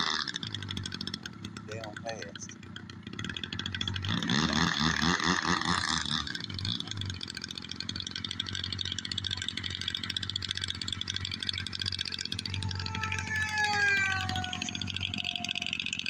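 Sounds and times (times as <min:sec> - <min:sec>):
model airplane motor buzzing: 0:00.0 - 0:16.0.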